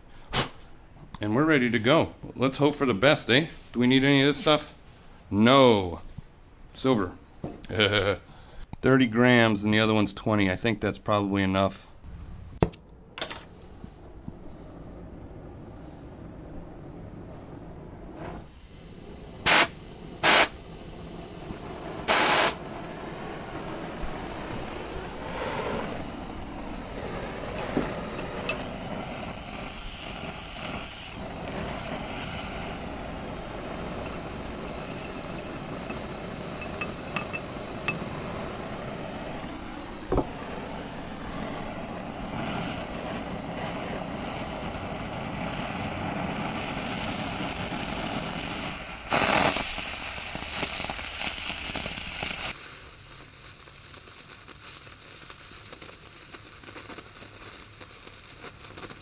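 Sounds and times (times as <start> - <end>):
gas torch burning: 0.0 - 59.0.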